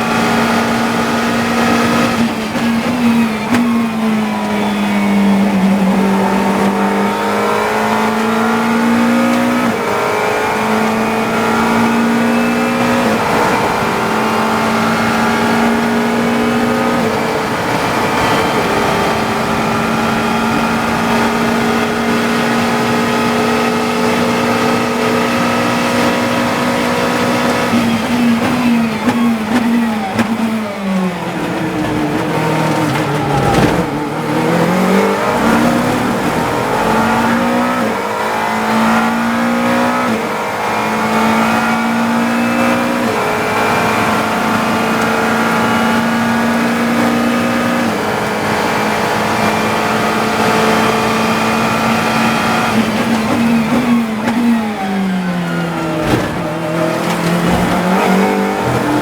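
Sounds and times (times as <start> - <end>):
quick gear downshifts: 0.0 - 59.0
race car engine revving: 0.0 - 59.0.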